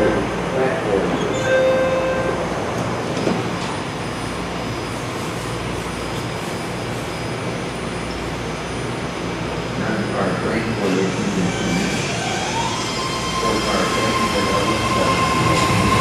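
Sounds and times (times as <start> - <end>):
train wheels and motors rumbling: 2.2 - 16.0.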